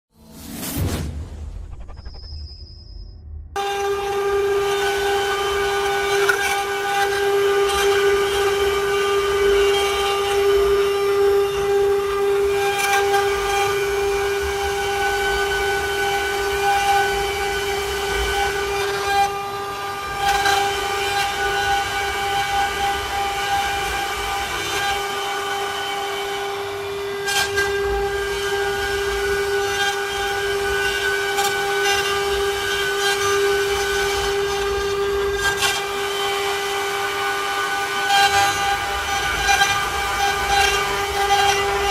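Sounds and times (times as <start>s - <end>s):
router spindle whining: 3.5s - 41.9s.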